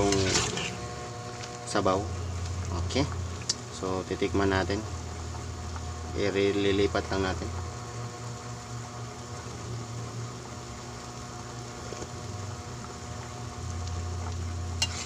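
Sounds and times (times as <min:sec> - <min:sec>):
broth bubbling at a boil: 0:00.0 - 0:15.0
constant low hum: 0:00.0 - 0:15.0.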